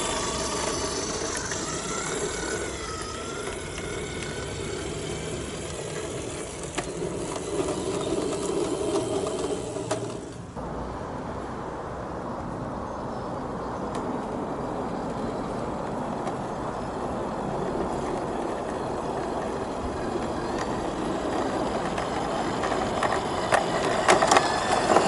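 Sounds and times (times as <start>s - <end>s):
model railcar motor running: 0.0s - 10.6s, 14.9s - 25.0s
wheels on rails: 0.0s - 10.6s, 13.7s - 25.0s
outdoor background: 0.0s - 25.0s.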